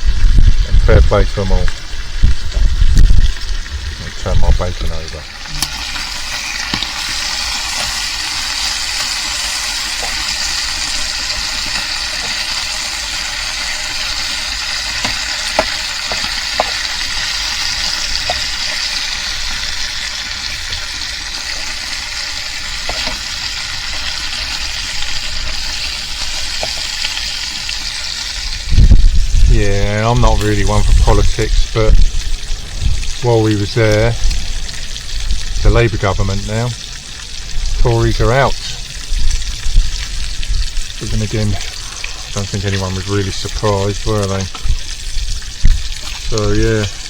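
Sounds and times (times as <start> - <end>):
bacon sizzling in a frying pan: 0.0 - 47.0
fat popping and crackling: 0.0 - 47.0.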